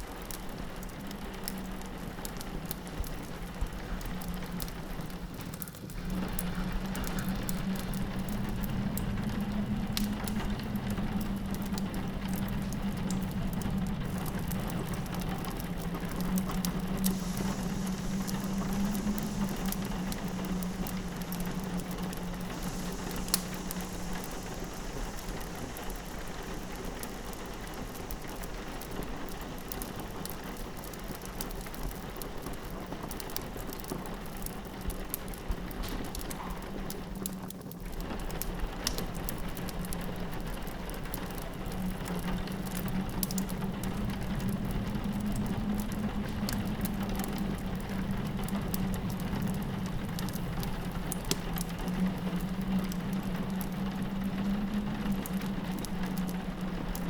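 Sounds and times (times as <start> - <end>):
rain pattering on a window: 0.0 - 57.0
wood fire crackling: 0.0 - 57.0
low wind moan: 0.2 - 57.0.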